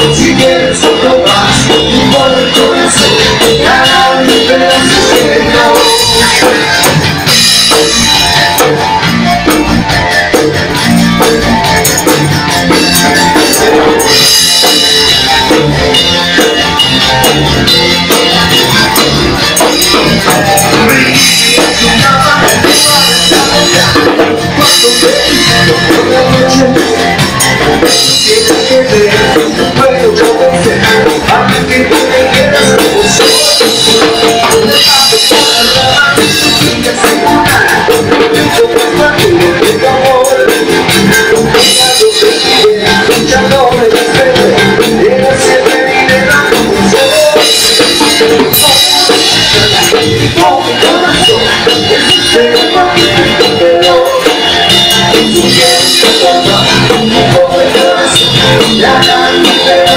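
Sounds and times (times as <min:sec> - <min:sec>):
live dance band playing: 0:00.0 - 0:59.9.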